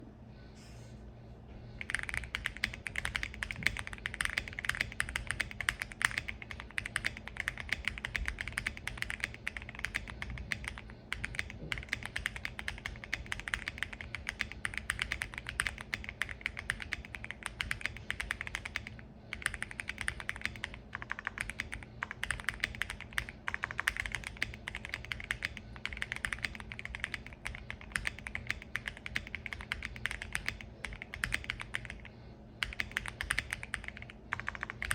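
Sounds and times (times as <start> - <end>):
fast typing on mechanical keyboard: 1.8 - 34.9.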